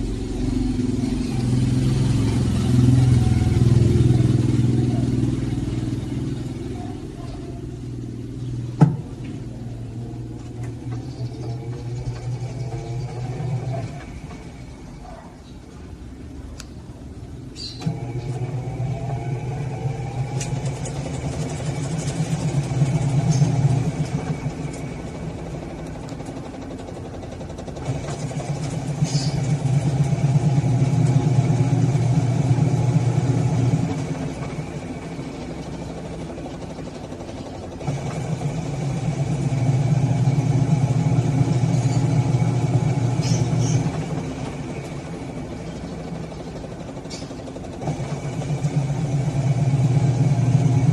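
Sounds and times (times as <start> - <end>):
washing machine tub coasting: 0.0 - 15.2, 17.8 - 50.9
washing machine motor spinning: 0.0 - 16.3, 17.8 - 50.9.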